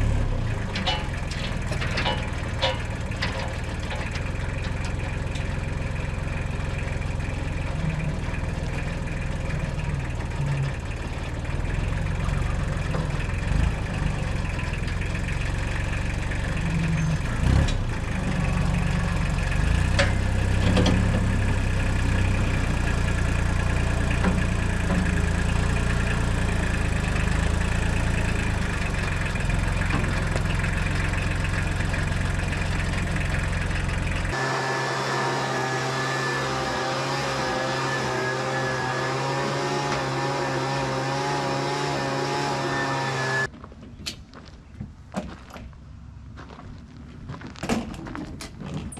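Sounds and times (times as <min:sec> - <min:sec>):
engine idling: 0:00.0 - 0:41.7.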